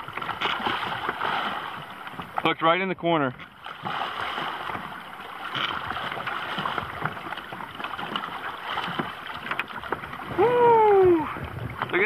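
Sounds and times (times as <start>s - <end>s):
sea water sloshing and splashing: 0.0s - 12.0s.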